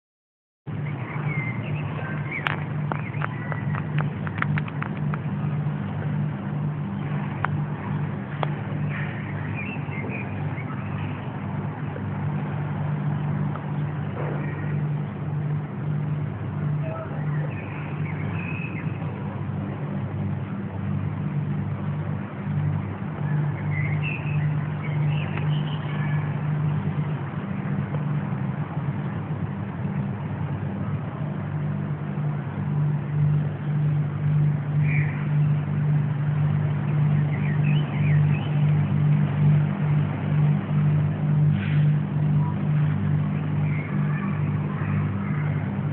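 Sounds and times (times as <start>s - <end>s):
low droning hum: 0.7s - 45.9s.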